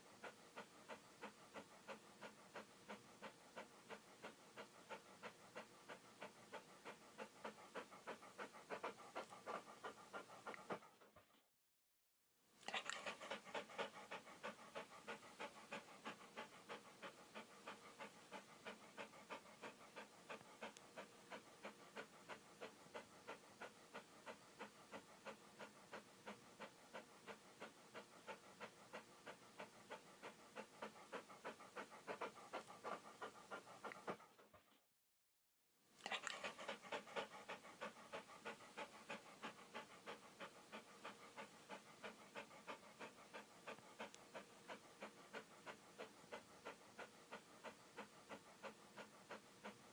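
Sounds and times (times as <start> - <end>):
dog panting rapidly: 0.0 - 11.5, 12.6 - 34.9, 36.0 - 49.9.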